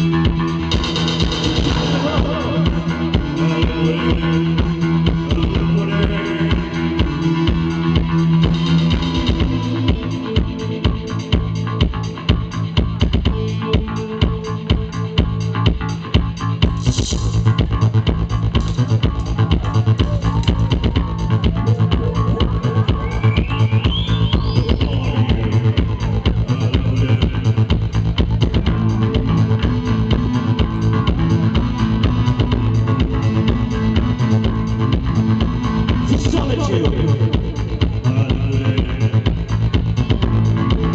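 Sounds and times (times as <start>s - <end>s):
drum kit beating: 0.0s - 40.9s
live band playing: 0.0s - 40.9s.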